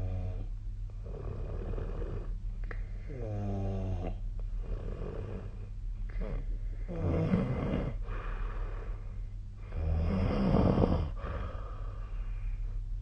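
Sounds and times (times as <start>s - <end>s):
person snoring: 0.0s - 2.4s, 3.1s - 9.0s, 9.6s - 12.2s.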